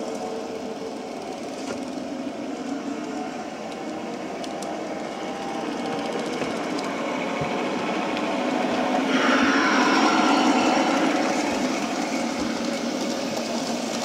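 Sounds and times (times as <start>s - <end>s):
model train motor whirring: 0.0s - 14.0s
wheels rumbling on rails: 0.0s - 14.0s.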